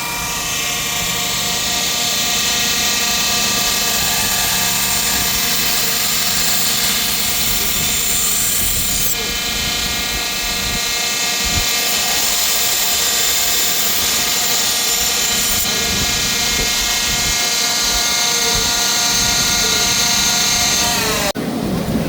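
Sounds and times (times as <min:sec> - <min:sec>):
belt grinder whining: 0:00.0 - 0:21.4.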